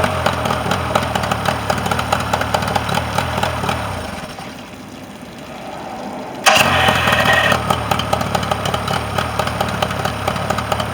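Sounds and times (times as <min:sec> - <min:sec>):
outboard motor running: 0:00.0 - 0:04.4, 0:06.5 - 0:10.9
outboard motor starting with whine: 0:00.0 - 0:05.8, 0:06.4 - 0:10.9.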